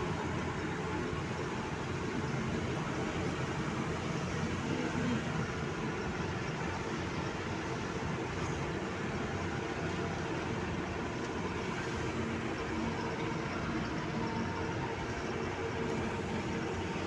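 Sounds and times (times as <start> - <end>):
truck diesel engine drone: 0.0 - 17.0.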